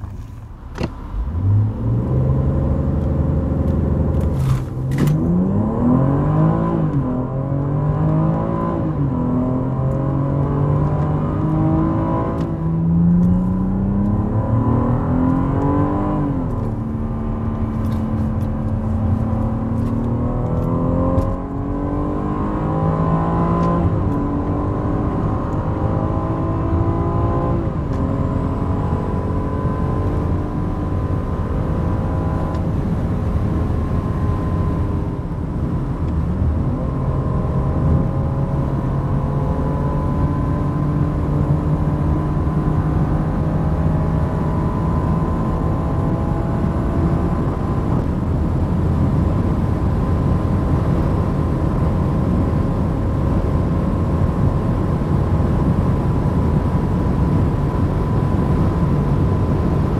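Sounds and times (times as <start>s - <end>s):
car engine accelerating hard: 1.1s - 59.9s.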